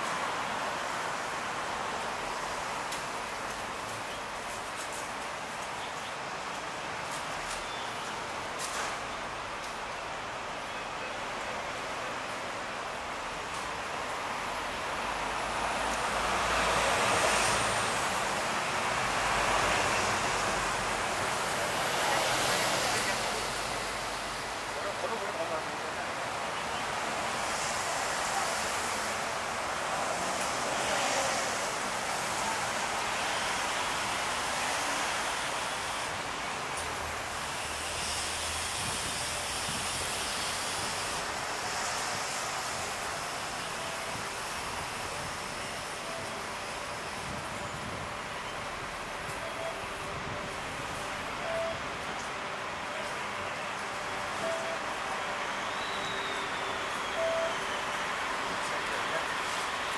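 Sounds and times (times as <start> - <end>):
passing traffic rush: 0.0 - 59.9.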